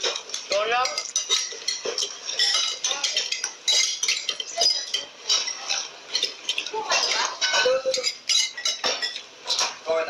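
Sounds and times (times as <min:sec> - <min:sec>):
metal spoon clinking on bowl: 0:00.0 - 0:09.8.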